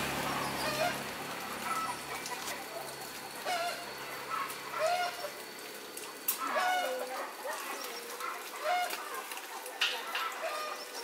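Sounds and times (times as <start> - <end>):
chickens clucking: 0.2 - 11.0.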